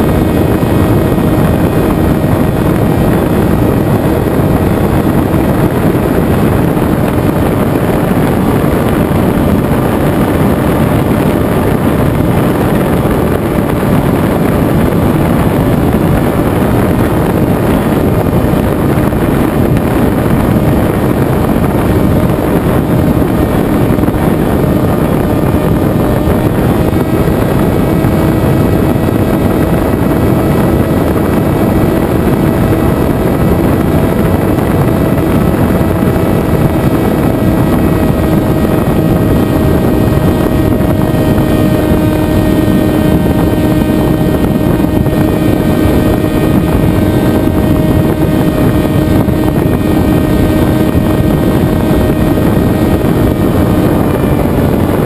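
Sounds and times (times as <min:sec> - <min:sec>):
propeller humming: 0:00.0 - 0:55.0
wind rush on microphone: 0:00.0 - 0:55.0.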